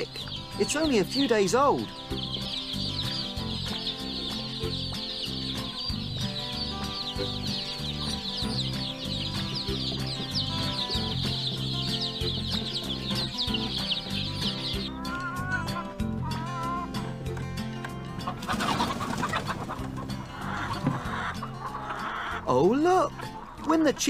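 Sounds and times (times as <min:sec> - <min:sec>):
chicks peeping: 0:00.0 - 0:24.0
soft background music: 0:00.0 - 0:24.0.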